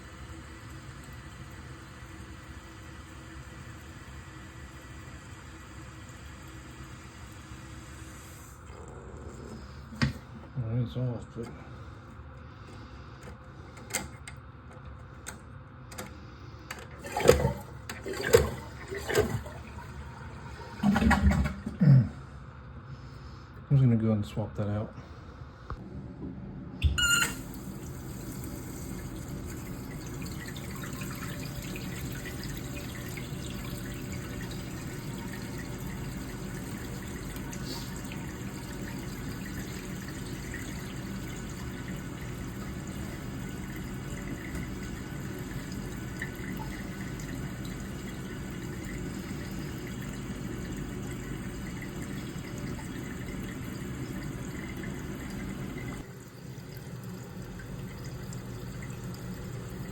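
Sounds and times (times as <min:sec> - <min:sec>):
toilet cistern filling with water: 0:00.0 - 0:10.3, 0:16.9 - 0:21.8, 0:26.9 - 0:59.9.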